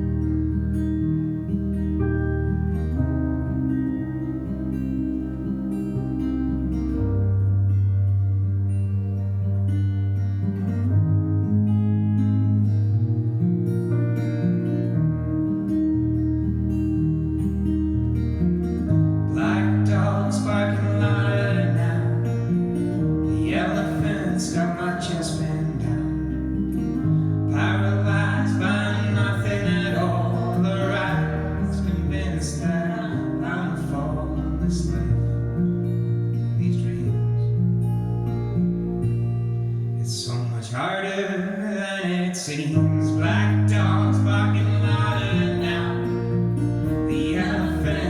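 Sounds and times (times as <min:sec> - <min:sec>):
instrumental melodic line: 0:00.0 - 0:40.1, 0:42.9 - 0:48.0
low bass notes: 0:00.0 - 0:40.4, 0:42.8 - 0:48.0
acoustic guitar strumming: 0:00.0 - 0:48.0.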